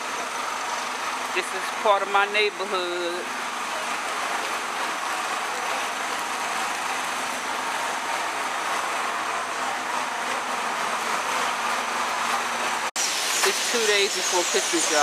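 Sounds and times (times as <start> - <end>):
traffic: 0.0 - 15.0
tyres hissing on wet pavement: 0.0 - 15.0.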